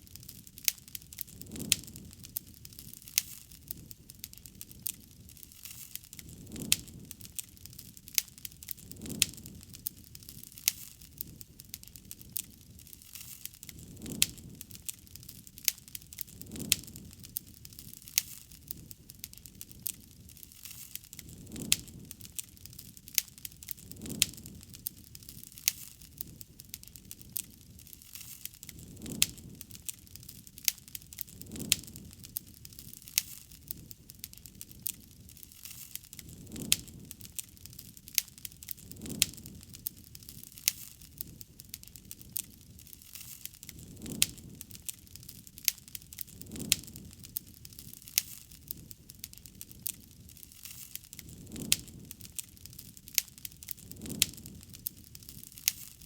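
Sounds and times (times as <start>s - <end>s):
campfire crackling: 0.0s - 56.0s
low rumble of flame: 0.0s - 56.0s.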